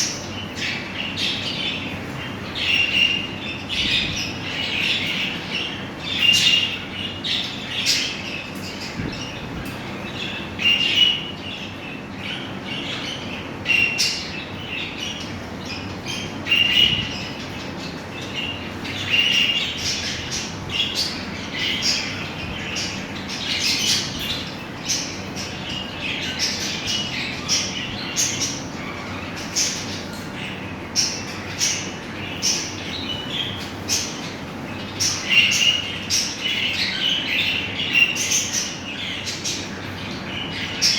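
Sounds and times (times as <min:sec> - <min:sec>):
caged birds calling: 0:00.0 - 0:40.9.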